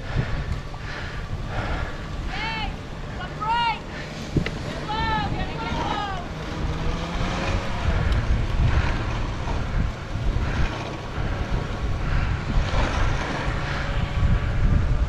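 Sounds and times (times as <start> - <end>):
sled runners hissing over snow: 0.0 - 15.0
wind buffeting microphone: 0.0 - 15.0.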